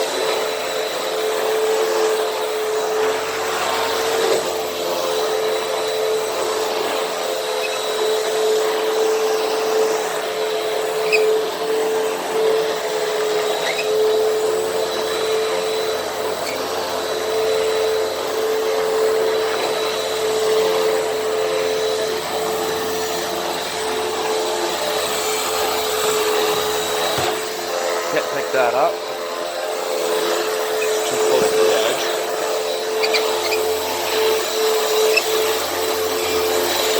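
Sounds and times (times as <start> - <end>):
upright vacuum cleaner running: 0.0 - 36.9.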